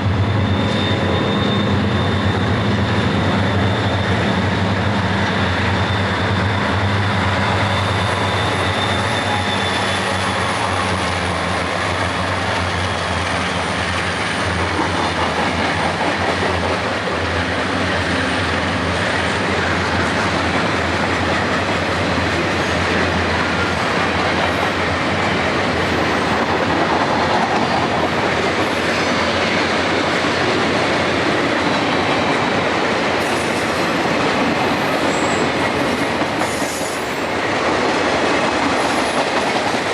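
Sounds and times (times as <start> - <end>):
diesel locomotive hum: 0.0 - 39.9
train wheels clacking on rails: 0.0 - 39.9.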